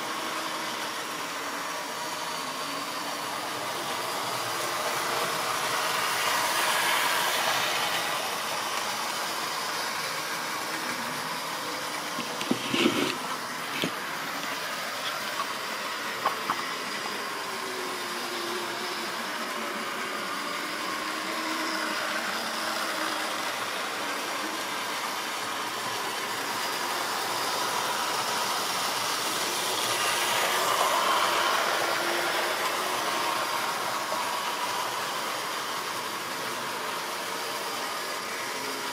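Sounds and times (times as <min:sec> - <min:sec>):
model train motors humming: 0:00.0 - 0:38.9.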